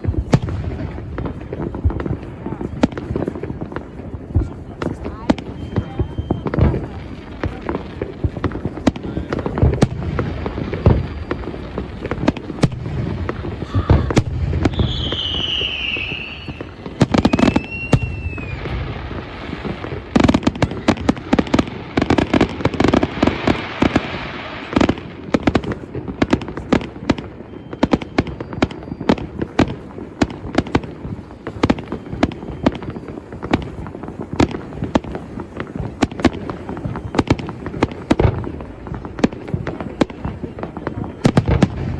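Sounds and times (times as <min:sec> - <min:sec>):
firework whistle: 0:00.0 - 0:24.7, 0:26.6 - 0:34.8, 0:35.4 - 0:41.9
fireworks bangs and crackles: 0:00.0 - 0:41.9.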